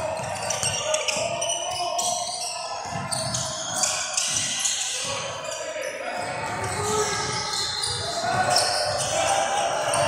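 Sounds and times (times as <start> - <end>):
sneaker squeaks: 0.0 - 10.0.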